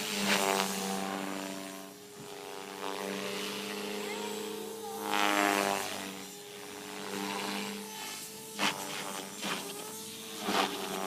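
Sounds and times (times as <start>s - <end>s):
rc helicopter whine: 0.0s - 11.0s.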